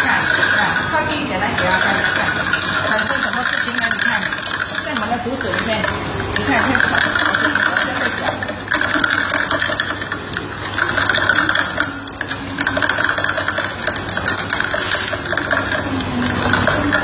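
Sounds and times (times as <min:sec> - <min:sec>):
spoon stirring ice in glass: 0:00.0 - 0:17.0.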